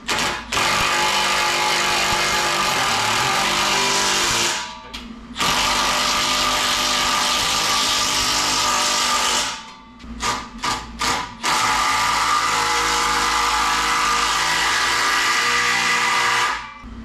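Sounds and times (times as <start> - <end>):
power tool running: 0.0 - 4.7, 5.4 - 16.7.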